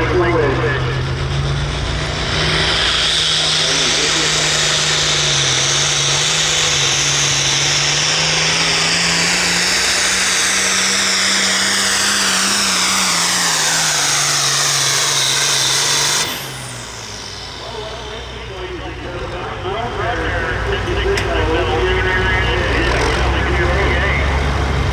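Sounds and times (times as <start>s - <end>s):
tractor diesel engine running: 0.0s - 24.9s.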